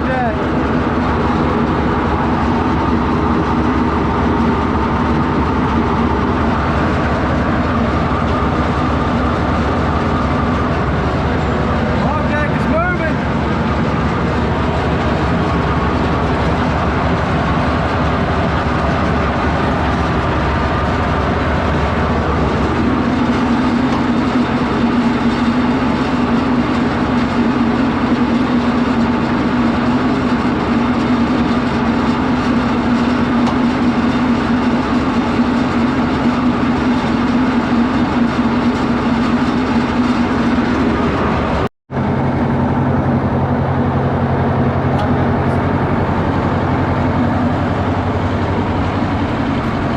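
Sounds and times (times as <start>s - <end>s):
diesel power unit running: 0.0s - 49.9s.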